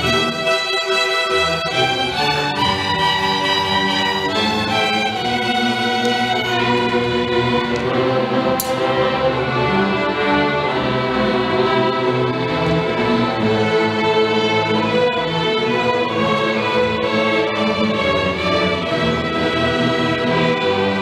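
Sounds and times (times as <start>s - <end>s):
string orchestra bowed chords: 0.0s - 21.0s.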